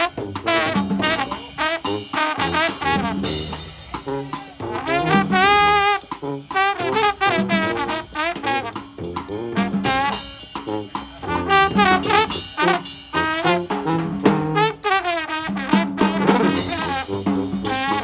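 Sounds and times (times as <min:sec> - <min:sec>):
brass band playing: 0:00.0 - 0:18.0.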